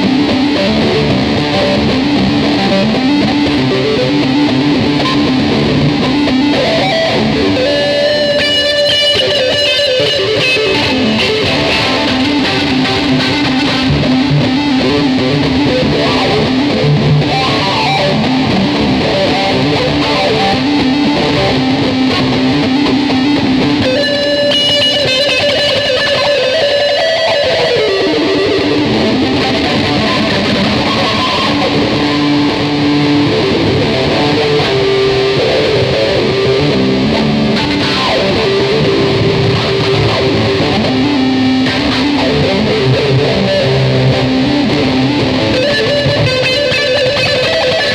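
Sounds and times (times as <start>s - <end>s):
electric guitar jamming: 0.0s - 47.9s.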